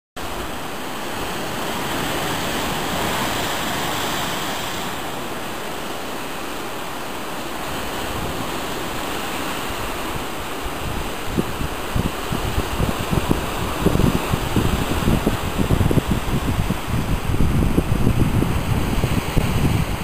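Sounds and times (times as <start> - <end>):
surf breaking over rocks: 0.2 - 20.0.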